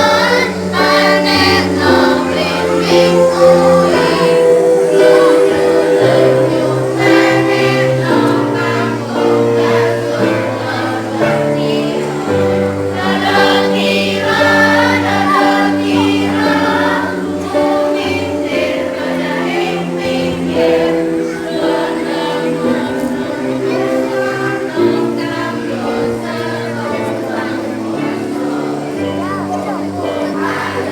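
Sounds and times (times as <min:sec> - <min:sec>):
children's choir singing: 0:00.0 - 0:30.9
musical accompaniment: 0:00.0 - 0:30.9.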